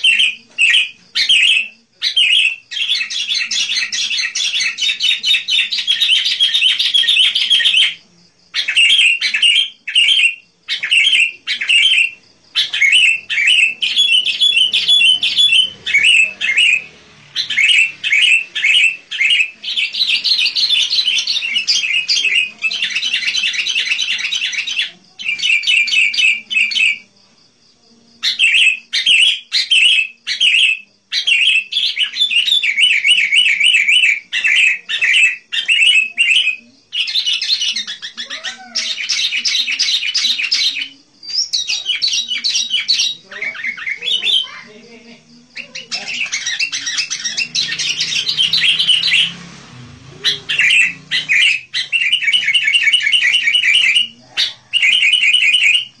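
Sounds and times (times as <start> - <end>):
bird chirping song: 0.0 - 27.5, 28.1 - 56.0.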